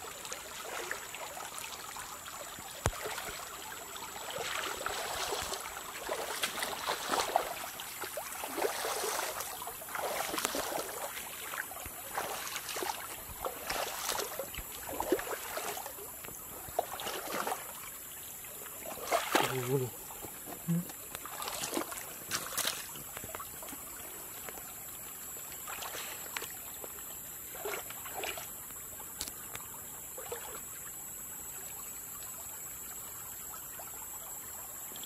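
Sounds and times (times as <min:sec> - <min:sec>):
stream trickling over stones: 0:00.0 - 0:35.0.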